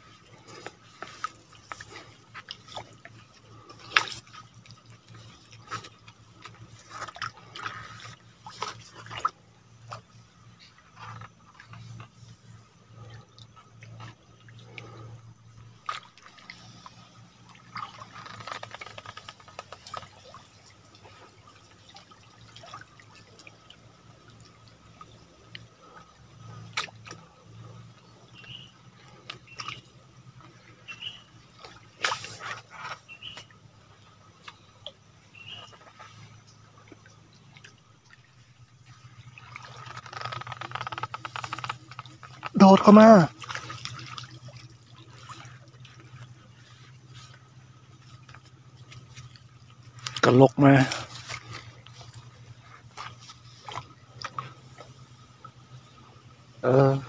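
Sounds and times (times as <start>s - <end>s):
water dripping and splashing: 0.0s - 57.0s.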